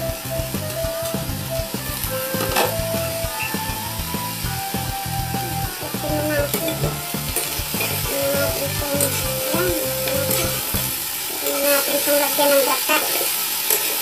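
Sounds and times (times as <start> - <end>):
beans sizzling in a pan: 0.1 - 14.0.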